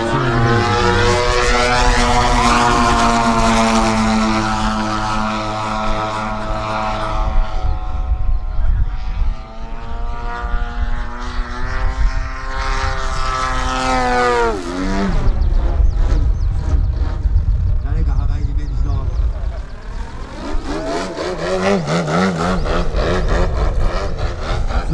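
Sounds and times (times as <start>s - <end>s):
model airplane engine and propeller: 0.0s - 24.9s.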